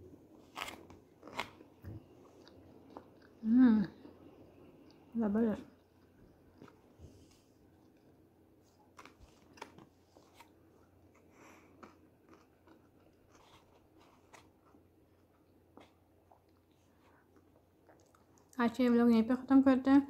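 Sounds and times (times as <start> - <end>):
faint chewing: 0.4 - 18.6.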